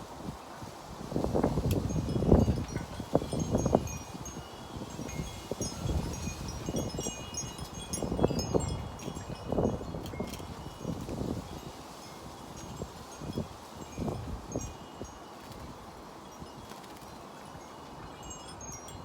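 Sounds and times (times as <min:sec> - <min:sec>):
wind buffeting microphone: 0:00.0 - 0:19.0
wind chimes tinkling: 0:01.2 - 0:19.0.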